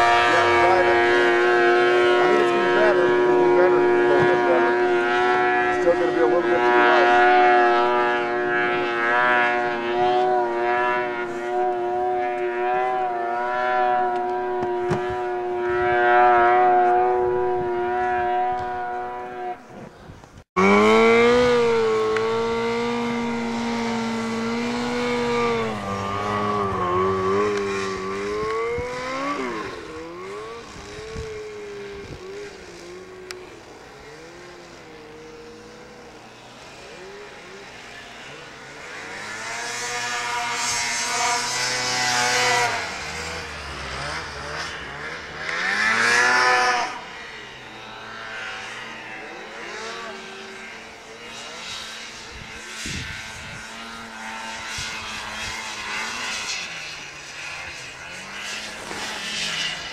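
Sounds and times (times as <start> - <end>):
snowmobile engine passing: 0.0 - 59.9
snowmobile engines at high revs: 0.0 - 59.9.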